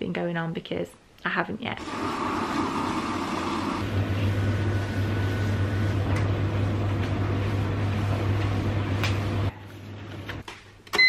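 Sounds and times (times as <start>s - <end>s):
appliance humming: 1.8s - 11.0s.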